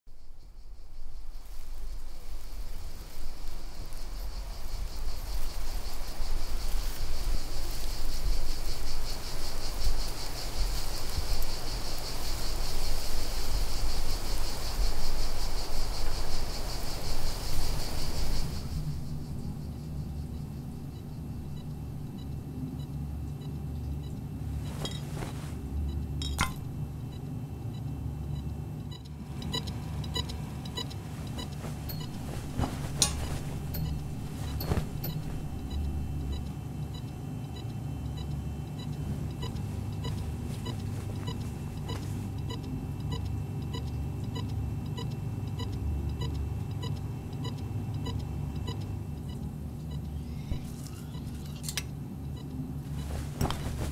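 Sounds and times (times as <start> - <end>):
low machine hum: 0.2 - 53.9.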